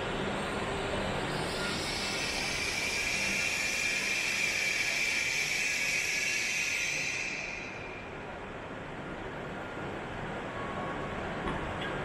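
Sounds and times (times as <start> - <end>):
train rolling with high-toned hiss: 0.0 - 10.9.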